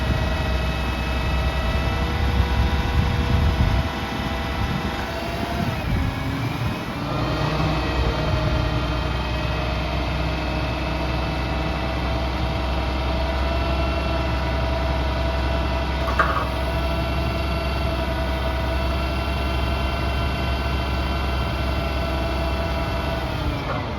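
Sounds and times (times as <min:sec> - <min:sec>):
diesel truck engine rumbling: 0:00.0 - 0:23.9.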